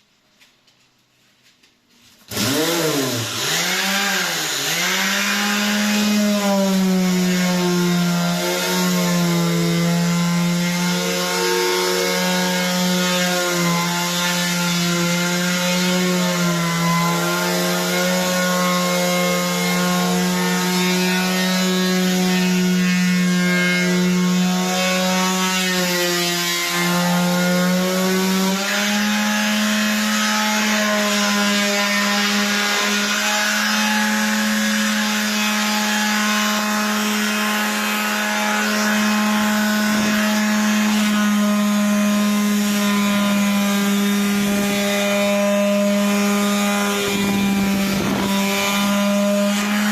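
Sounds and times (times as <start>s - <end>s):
electric sander motor hum: 2.3s - 49.9s
sandpaper rasping on wood: 2.4s - 49.9s.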